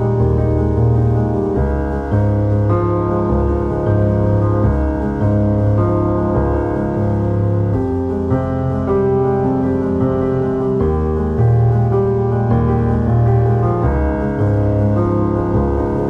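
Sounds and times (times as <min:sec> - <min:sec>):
gentle piano piece: 0:00.0 - 0:16.0
sustained low bass notes: 0:00.0 - 0:16.0.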